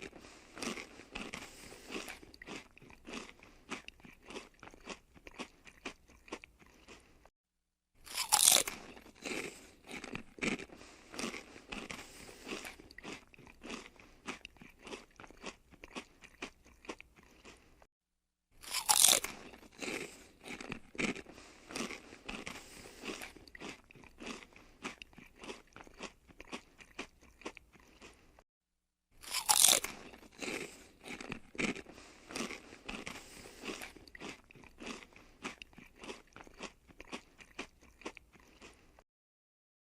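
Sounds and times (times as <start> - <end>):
potato chips crunching: 0.0 - 7.2, 8.0 - 17.8, 18.6 - 28.4, 29.2 - 39.0.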